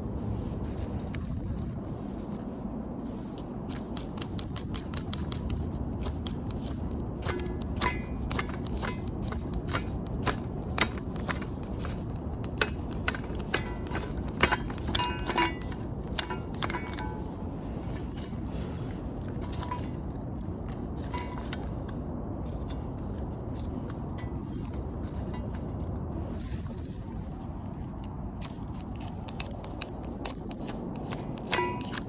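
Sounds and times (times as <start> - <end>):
wind noise: 0.0 - 32.0
ferro rod scraping strikes: 3.7 - 25.9, 28.4 - 32.0.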